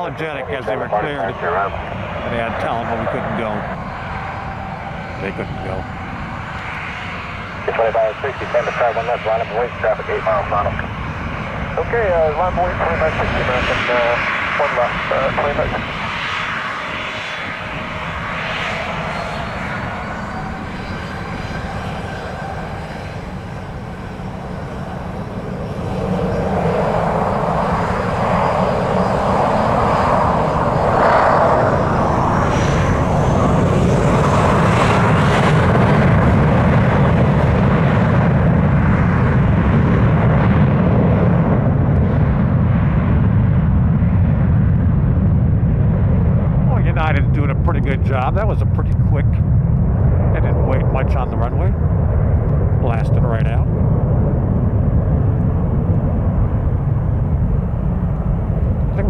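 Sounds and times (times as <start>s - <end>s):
deep jet engine roar: 0.0s - 59.0s
jet engine whine: 0.0s - 59.0s.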